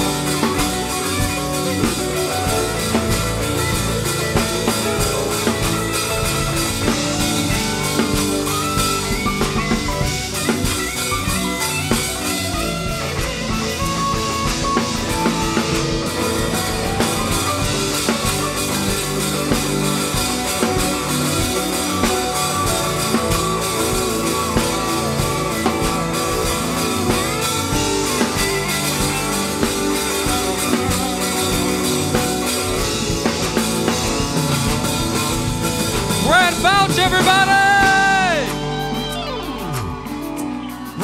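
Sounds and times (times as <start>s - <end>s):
drum kit: 0.0s - 41.0s
electric guitar: 0.0s - 41.0s.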